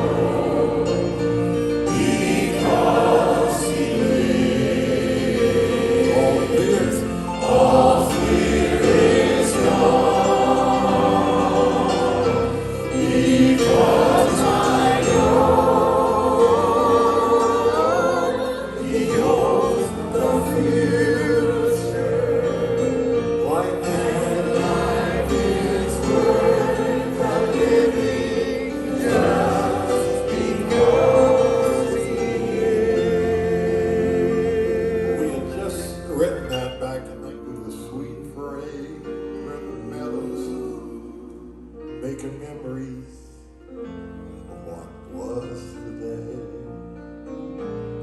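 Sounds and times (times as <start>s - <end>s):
choir singing slow sacred song: 0.0s - 36.3s, 37.7s - 42.5s.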